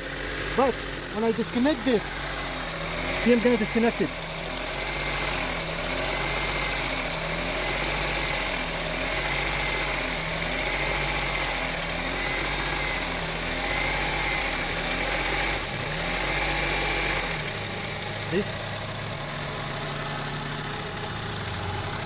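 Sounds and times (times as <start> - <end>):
car engine idling roughly: 0.0 - 22.0.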